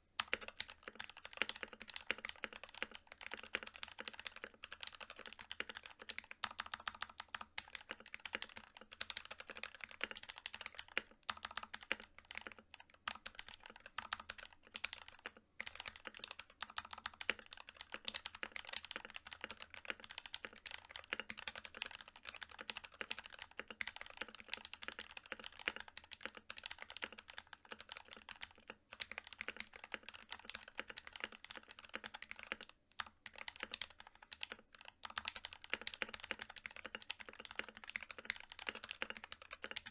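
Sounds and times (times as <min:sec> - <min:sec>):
fast typing on mechanical keyboard: 0:00.2 - 0:39.9.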